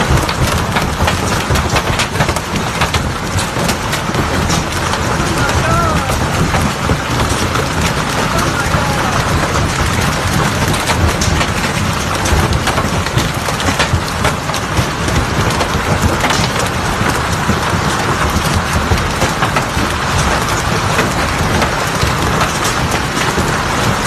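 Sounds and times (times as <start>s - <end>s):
hail pelting hard surfaces: 0.0s - 24.0s.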